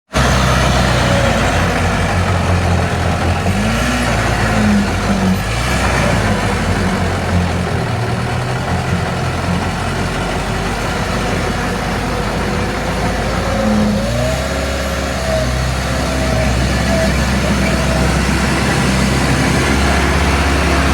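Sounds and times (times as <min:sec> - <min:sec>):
heavy diesel engine revving: 0:00.1 - 0:20.9.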